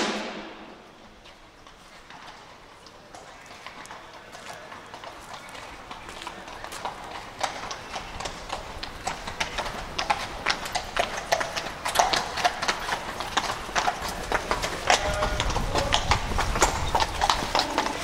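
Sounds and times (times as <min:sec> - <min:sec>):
horses hooves clip-clopping: 0:00.8 - 0:18.0.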